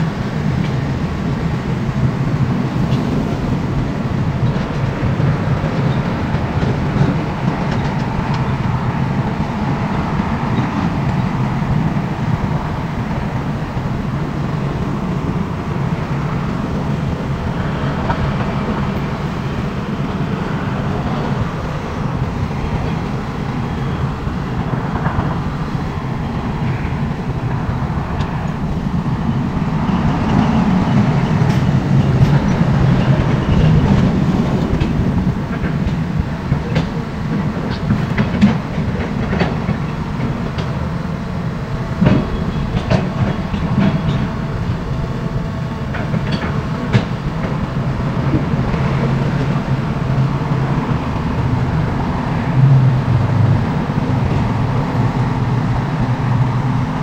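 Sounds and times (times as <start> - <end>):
diesel machinery rumbling: 0.0 - 57.0.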